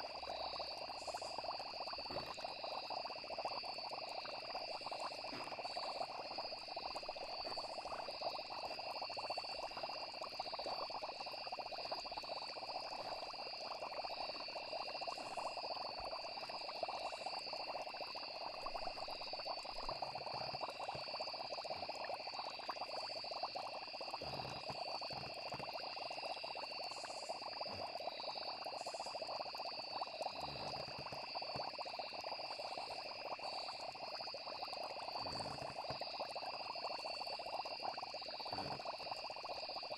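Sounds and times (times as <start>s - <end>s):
frogs and insects trilling: 0.0s - 39.9s.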